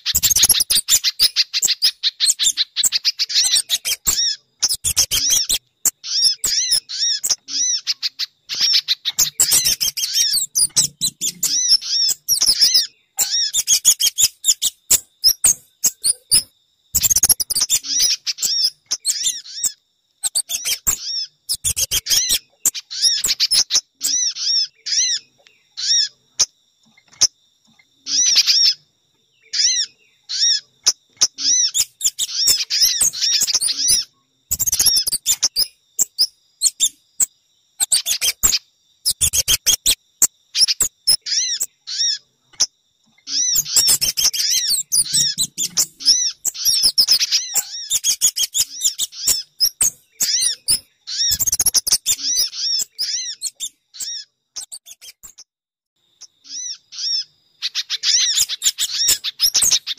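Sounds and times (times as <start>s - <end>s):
high arched bird chirps: 0.0s - 27.4s, 28.0s - 28.8s, 29.4s - 55.5s, 56.2s - 59.9s.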